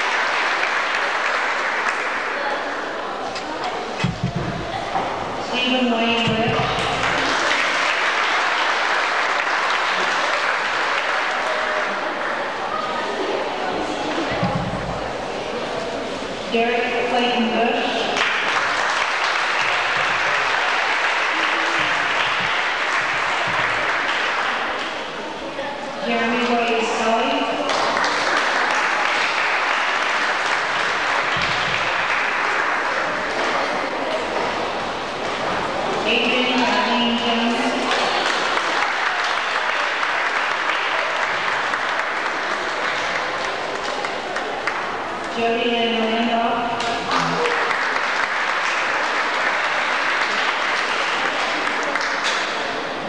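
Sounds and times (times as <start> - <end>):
audience applauding: 0.0 - 4.0, 6.5 - 15.0, 18.0 - 25.4, 27.6 - 45.4, 46.8 - 53.0.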